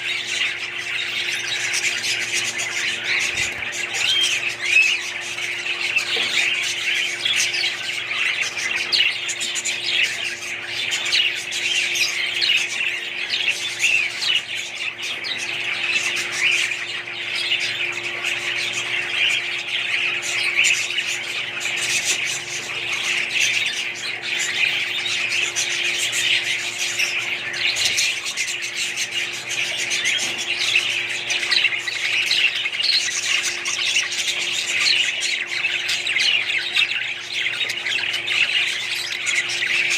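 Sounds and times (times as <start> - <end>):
budgerigars chirping and squawking: 0.0 - 39.9
steady low hum: 0.0 - 39.9.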